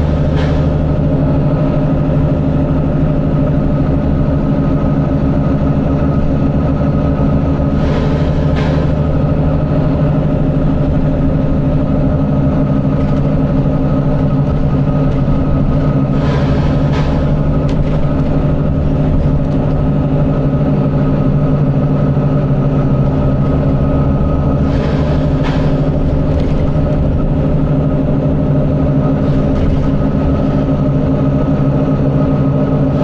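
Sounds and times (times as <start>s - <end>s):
diesel bus engine running: 0.0s - 33.0s.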